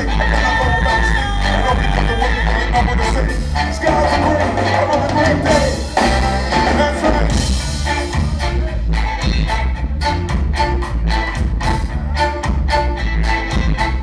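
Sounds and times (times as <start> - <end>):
live ska band playing: 0.0 - 14.0
saxophone: 0.0 - 14.0
trombone: 0.0 - 14.0.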